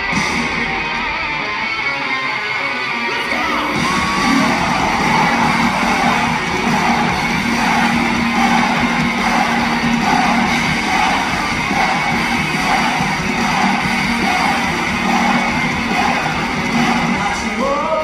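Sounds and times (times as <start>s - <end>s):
electric guitar: 0.0s - 18.0s
live pop-rock band: 0.0s - 18.0s.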